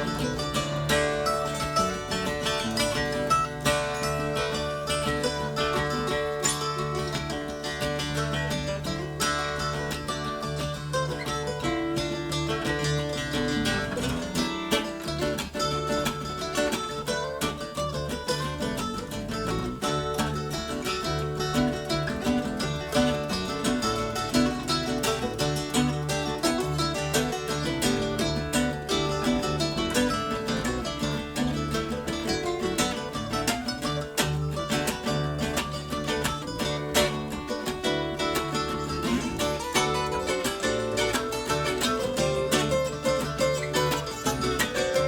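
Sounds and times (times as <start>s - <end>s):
bass line: 0.0s - 45.0s
guitar and mandolin picking: 0.0s - 45.0s.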